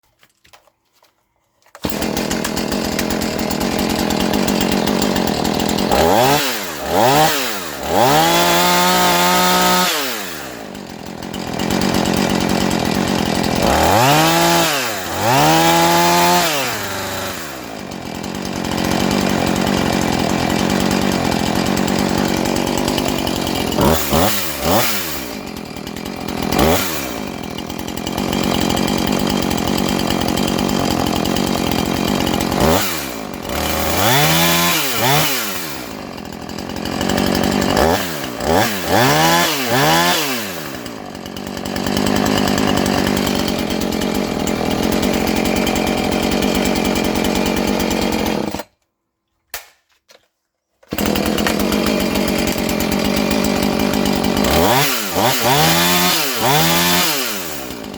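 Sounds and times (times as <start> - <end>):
chainsaw engine revving: 1.8 - 48.7, 50.9 - 57.9.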